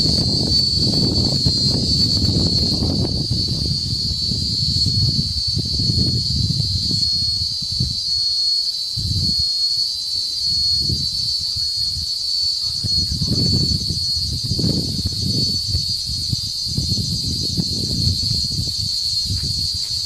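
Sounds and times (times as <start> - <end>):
wind rumble on microphone: 0.0 - 8.4, 9.0 - 9.5, 10.4 - 20.0
cicadas buzzing: 0.0 - 20.0.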